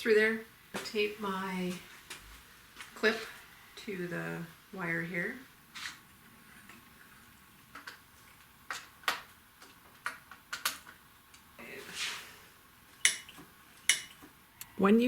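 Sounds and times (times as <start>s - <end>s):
soft hiss: 0.0s - 9.8s, 11.0s - 14.9s.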